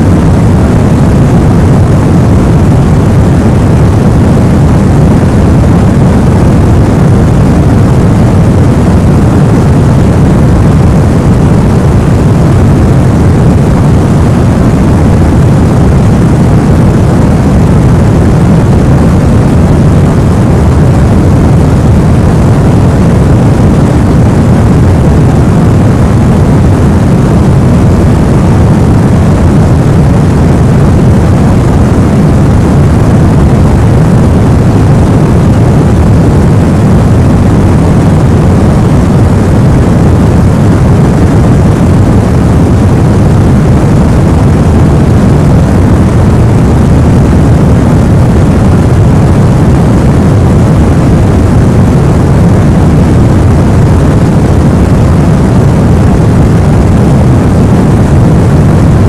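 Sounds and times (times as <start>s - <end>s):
deep rumbling white noise: 0.0s - 59.0s.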